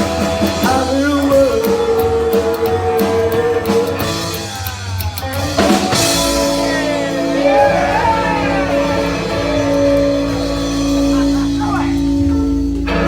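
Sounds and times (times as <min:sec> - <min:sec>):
electric guitar notes bending: 0:00.0 - 0:13.0
rockabilly band playing: 0:00.0 - 0:13.0.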